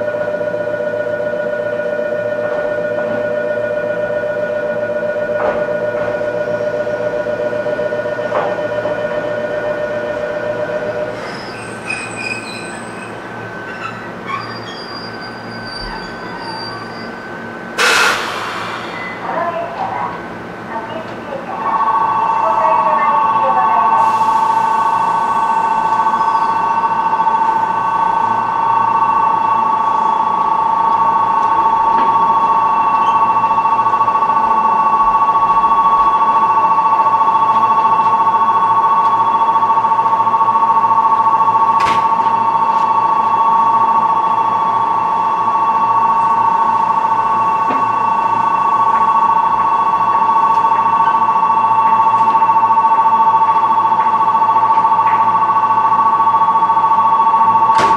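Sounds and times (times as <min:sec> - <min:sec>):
electric train whine: 0:00.0 - 0:57.9.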